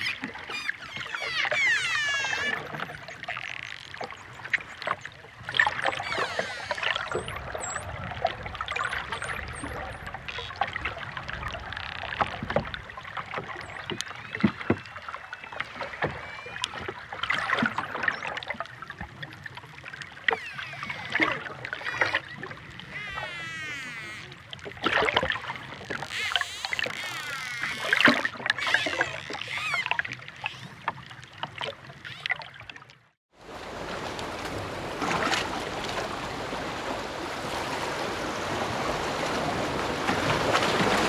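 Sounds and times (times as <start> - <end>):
water lapping at shore: 0.0 - 41.0.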